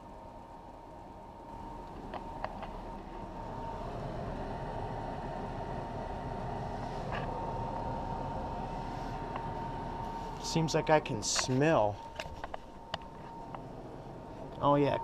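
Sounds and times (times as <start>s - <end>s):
furnace blower fan drone with whine: 0.0s - 15.0s.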